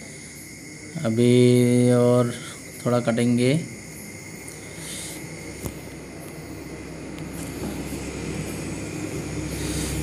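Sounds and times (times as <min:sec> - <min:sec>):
low machinery rumble: 0:00.0 - 0:10.0.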